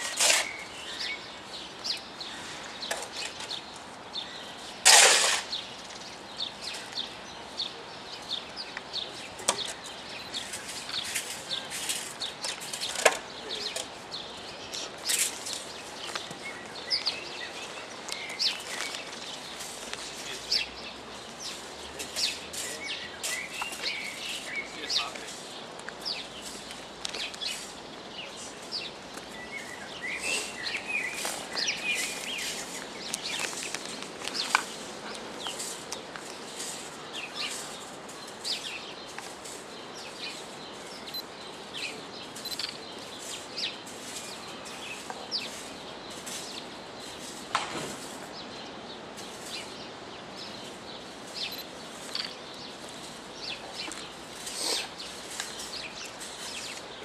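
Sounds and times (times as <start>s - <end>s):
birds chirping: 0.0s - 57.0s
outdoor background hiss: 0.0s - 57.0s.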